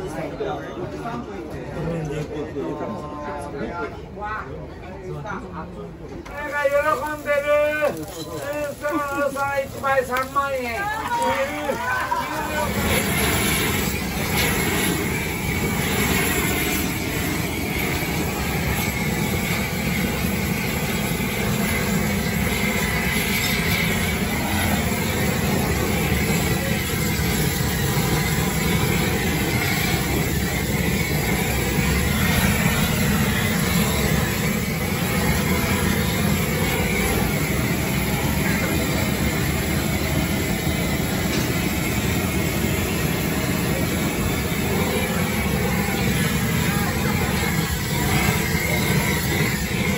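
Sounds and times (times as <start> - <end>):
gas torch flame rushing: 6.2 - 49.9.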